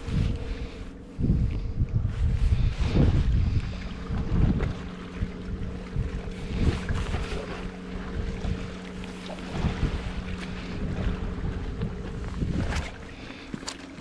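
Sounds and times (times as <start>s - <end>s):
low motor drone: 0.0s - 14.0s
wind rumbling on microphone: 0.0s - 14.0s.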